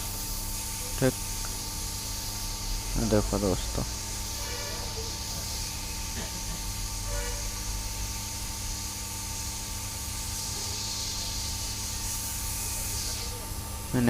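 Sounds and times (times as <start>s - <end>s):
hot air blower hissing: 0.0s - 14.0s.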